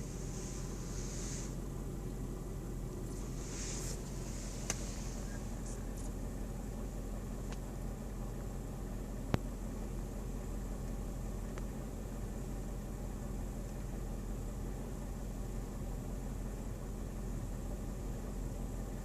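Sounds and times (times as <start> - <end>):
vehicle low hum: 0.0 - 19.0.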